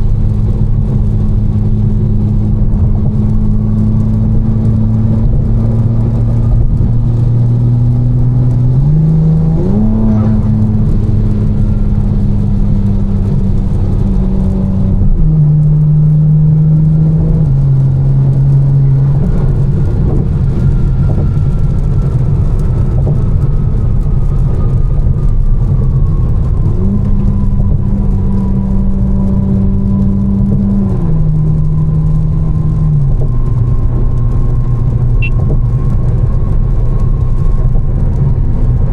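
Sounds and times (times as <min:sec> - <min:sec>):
car engine drone from inside: 0:00.0 - 0:38.9.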